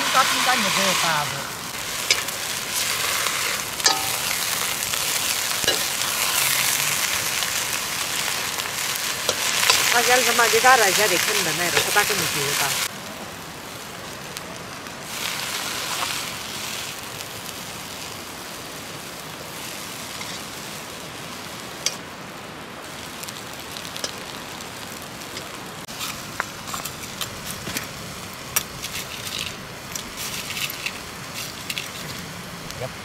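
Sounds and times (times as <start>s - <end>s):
greens hissing in a wok: 0.0s - 33.0s
wood fire crackling: 0.0s - 33.0s.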